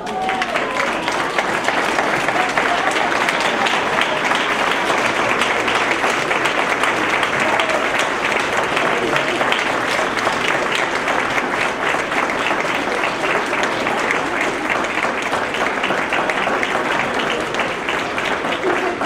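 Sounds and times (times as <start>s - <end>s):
crowd clapping: 0.0s - 19.0s.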